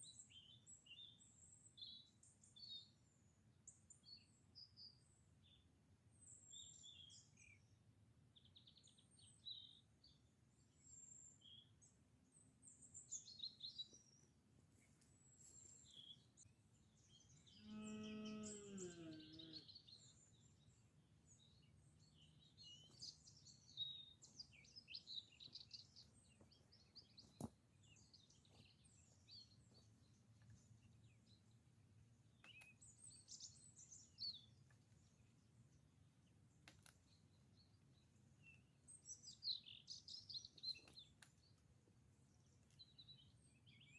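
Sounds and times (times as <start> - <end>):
small birds chirping: 8.4 - 43.9.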